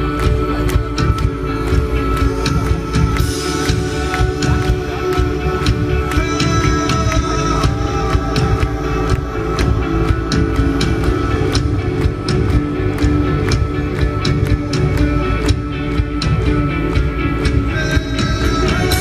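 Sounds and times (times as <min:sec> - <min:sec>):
drums with steady beat: 0:00.0 - 0:19.0
electric guitars: 0:00.0 - 0:19.0.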